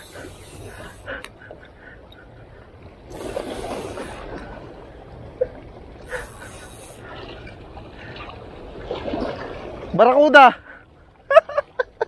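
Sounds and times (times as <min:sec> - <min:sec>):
water splashing: 0:00.0 - 0:12.0
waves lapping against rocks: 0:00.0 - 0:12.0.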